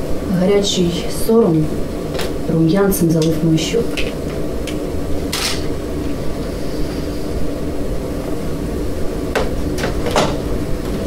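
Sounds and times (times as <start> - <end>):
faint constant hum: 0.0 - 11.0.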